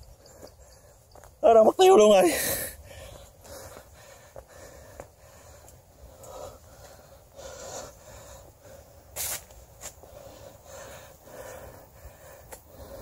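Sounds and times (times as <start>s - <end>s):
person breathing heavily: 0.0s - 1.2s, 2.2s - 13.0s.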